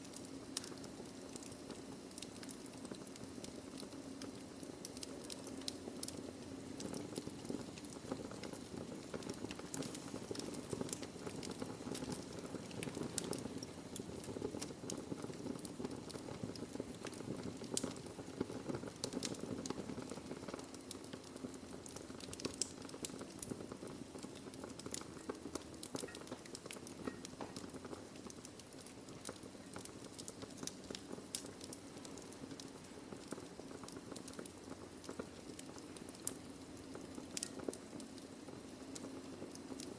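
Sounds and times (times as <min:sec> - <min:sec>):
fire hissing and rumbling: 0:00.0 - 0:39.9
logs crackling and popping: 0:00.0 - 0:39.9.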